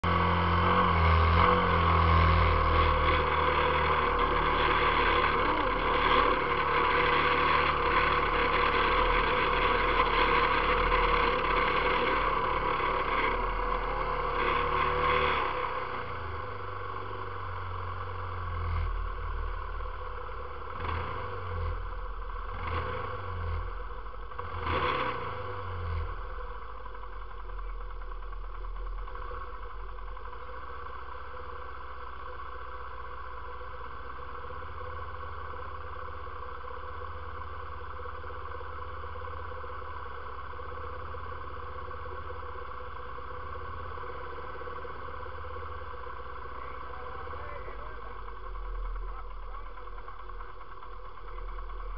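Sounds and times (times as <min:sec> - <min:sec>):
atv engine running and revving: 0:00.0 - 0:51.9.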